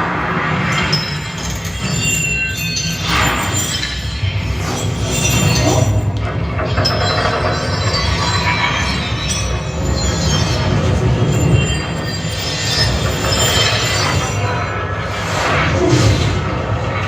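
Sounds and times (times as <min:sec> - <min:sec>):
music: 0:00.0 - 0:17.0
high metallic ringing: 0:00.6 - 0:15.2.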